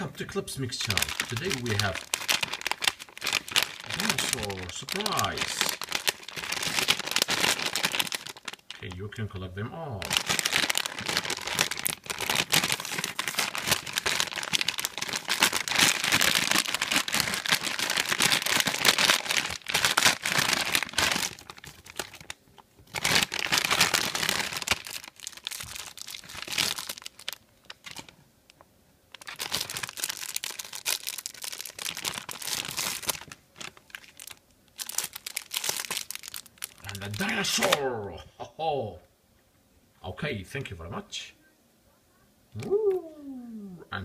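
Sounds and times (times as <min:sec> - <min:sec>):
plastic packaging crinkling: 0:00.0 - 0:09.2, 0:09.9 - 0:37.9.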